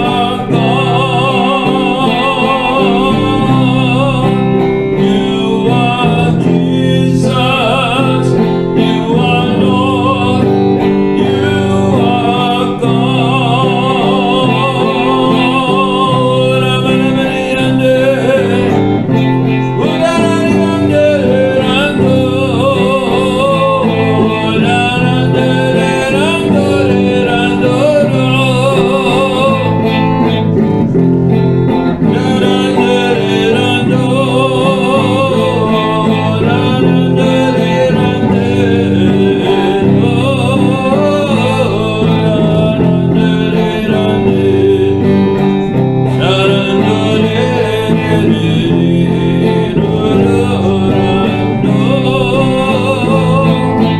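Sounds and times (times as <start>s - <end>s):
guitar: 0.0s - 53.9s
instrumental worship band music: 0.0s - 53.9s.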